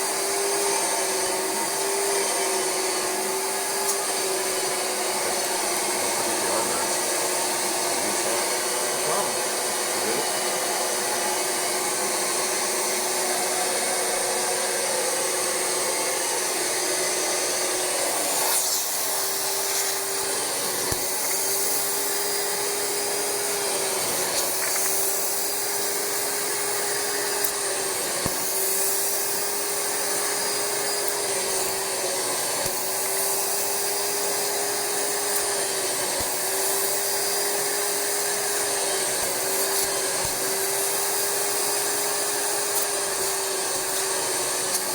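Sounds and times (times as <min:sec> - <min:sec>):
carpet cleaner vacuum motor humming: 0:00.0 - 0:44.9.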